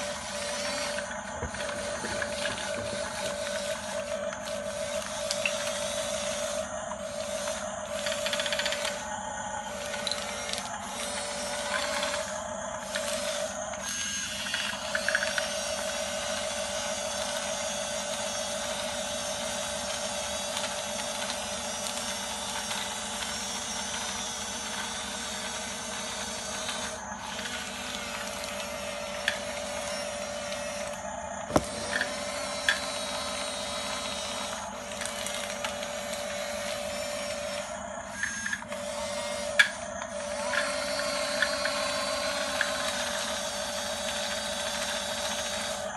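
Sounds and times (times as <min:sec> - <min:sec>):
toy bulldozer motors whining: 0:00.0 - 0:45.9.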